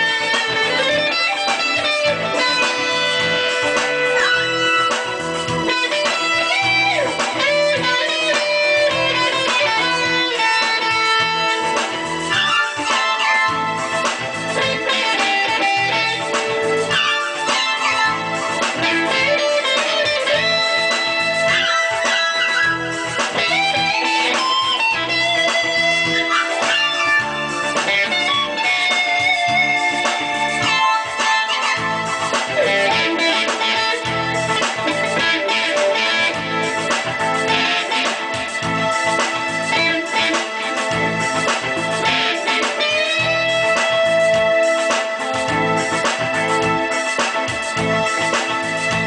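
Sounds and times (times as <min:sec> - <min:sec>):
electric guitar melody: 0:00.0 - 0:49.0
repeating bass pattern: 0:00.0 - 0:49.0.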